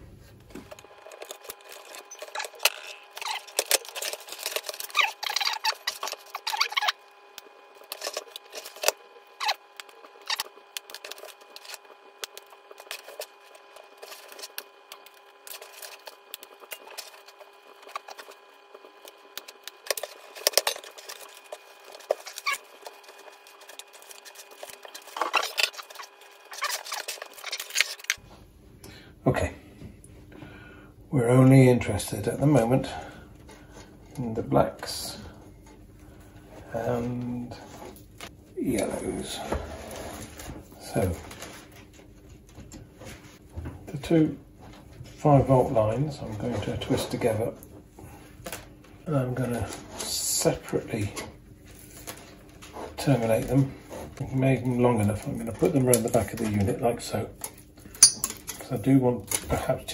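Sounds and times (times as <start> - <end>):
wires rustling and scraping: 0.0 - 28.4, 32.1 - 43.4, 44.0 - 59.9.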